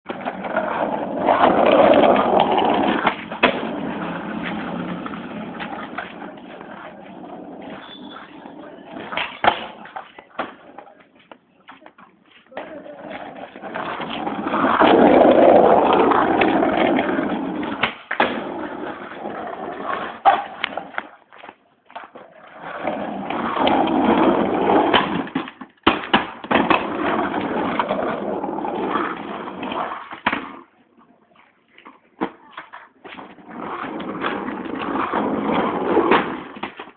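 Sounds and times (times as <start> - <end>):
skateboard wheels rolling: 0.0 - 36.9
skateboard clacks: 0.1 - 36.9.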